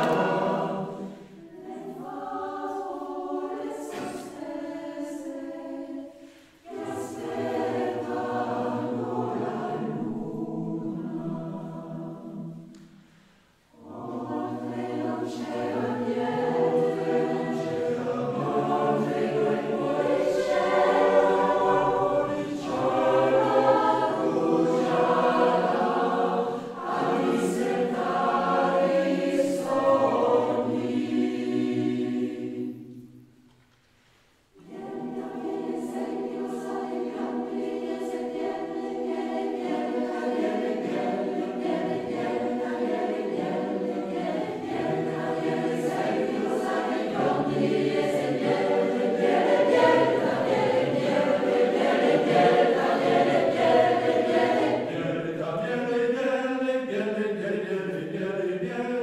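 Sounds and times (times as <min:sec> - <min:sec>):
mixed choir singing: 0:00.0 - 0:33.3, 0:34.6 - 0:59.0.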